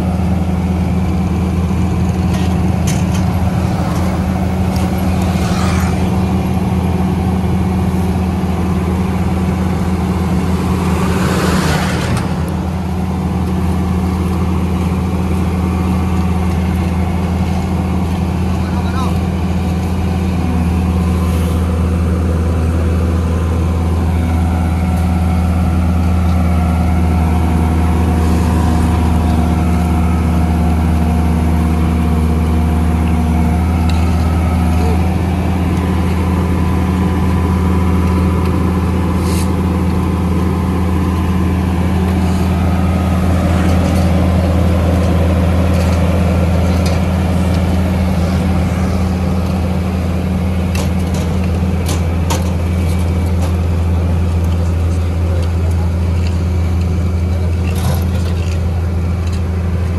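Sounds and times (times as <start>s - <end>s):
paver diesel engine droning: 0.0s - 59.9s.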